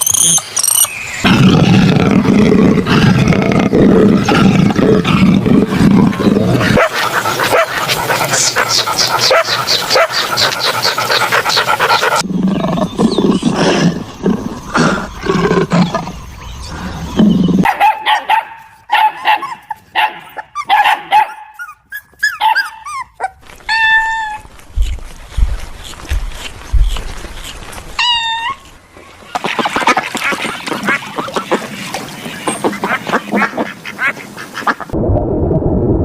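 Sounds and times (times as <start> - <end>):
rapid overlapping animal calls: 0.0 - 17.7, 23.7 - 35.0.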